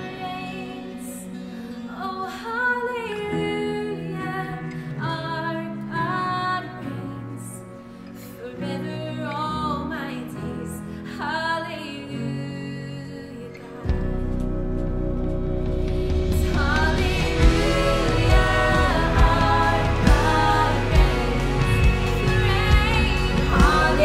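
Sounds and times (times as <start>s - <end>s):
women singing in harmony: 0.0s - 13.9s, 16.3s - 24.0s
acoustic guitar: 0.0s - 24.0s.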